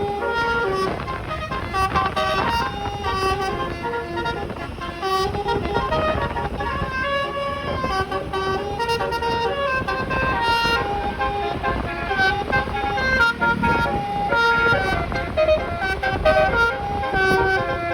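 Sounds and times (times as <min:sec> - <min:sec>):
horn playing a melody: 0:00.0 - 0:17.9
steady low rumble: 0:00.0 - 0:17.9.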